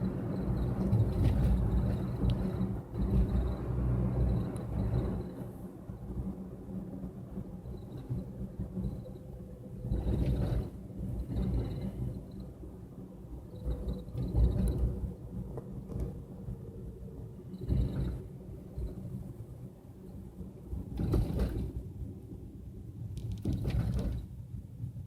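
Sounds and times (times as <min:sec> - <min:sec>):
car road and engine rumble: 0:00.0 - 0:25.0.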